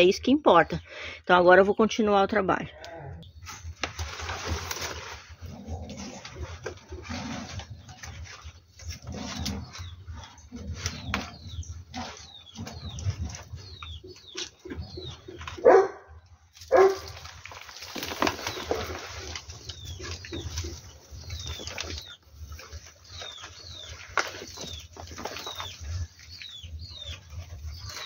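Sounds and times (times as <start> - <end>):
soil and roots rustling and crackling: 3.2 - 28.0.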